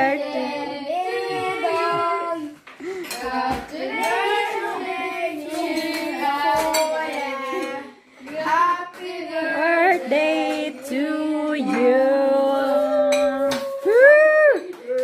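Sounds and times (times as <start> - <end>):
kids singing a party song: 0.0 - 13.9
woman singing: 0.0 - 14.6.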